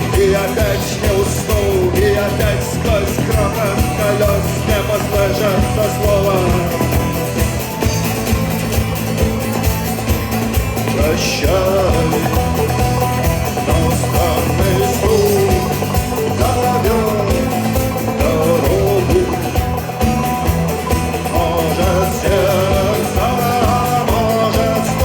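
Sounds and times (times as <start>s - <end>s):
instrumental rock band playing: 0.0s - 25.0s.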